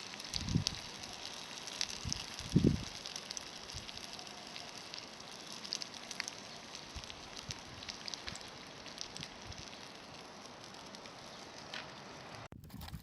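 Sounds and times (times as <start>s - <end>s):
campfire crackling and popping: 0.0s - 12.6s.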